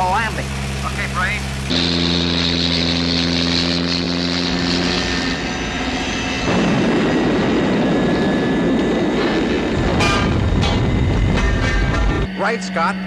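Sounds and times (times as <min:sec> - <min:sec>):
biplane engine droning: 0:00.0 - 0:13.0.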